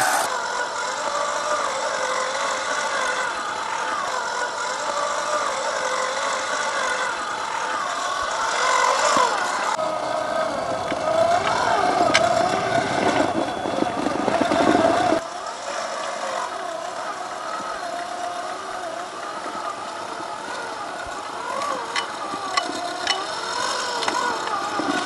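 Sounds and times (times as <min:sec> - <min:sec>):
toy car electric motor whining: 0:00.0 - 0:25.0.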